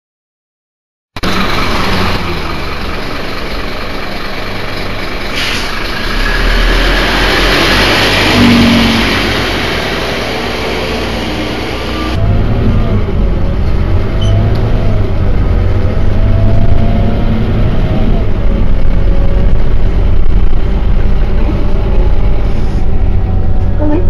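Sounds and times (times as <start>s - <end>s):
bus diesel engine running: 1.2s - 24.0s.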